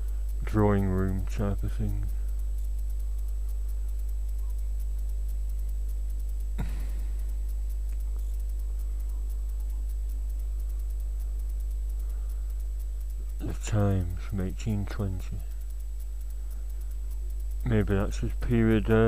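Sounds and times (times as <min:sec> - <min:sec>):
low electrical hum with buzz: 0:00.0 - 0:19.0.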